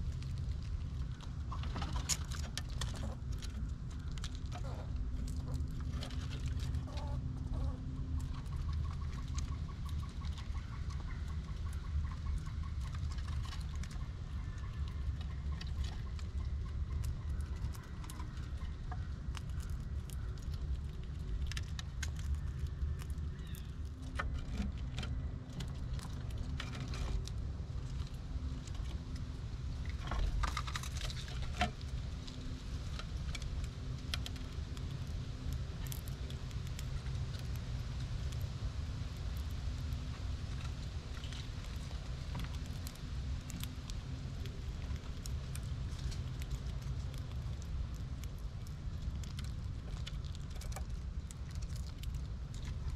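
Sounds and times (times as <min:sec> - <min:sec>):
steady low rumble: 0:00.0 - 0:52.9
squirrel claws scrabbling on wood: 0:00.1 - 0:38.5, 0:39.2 - 0:52.9.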